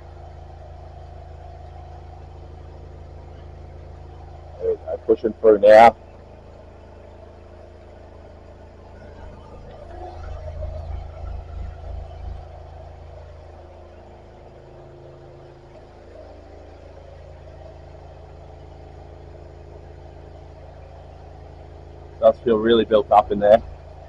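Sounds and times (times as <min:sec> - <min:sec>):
engine and pump humming: 0:00.0 - 0:24.0.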